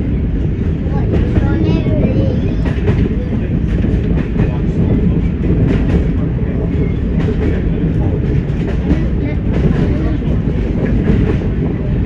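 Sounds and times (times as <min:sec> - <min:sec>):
train diesel engine rumble: 0:00.0 - 0:12.0.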